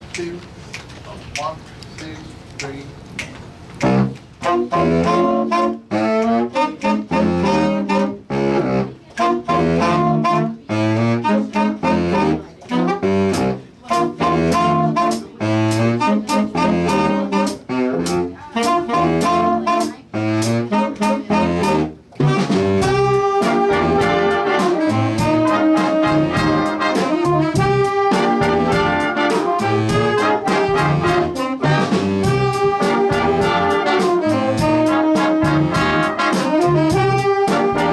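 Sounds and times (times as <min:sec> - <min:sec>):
jazz band playing: 0:03.6 - 0:37.9.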